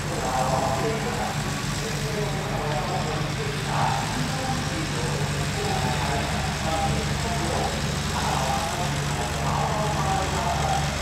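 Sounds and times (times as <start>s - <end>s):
faint voices calling: 0.0s - 11.0s
pickup truck engine running: 0.0s - 11.0s.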